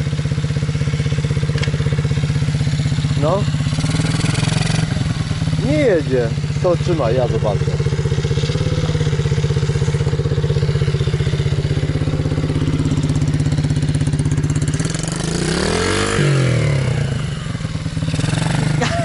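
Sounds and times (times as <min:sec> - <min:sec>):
motorbike engine idling and revving: 0:00.0 - 0:19.0.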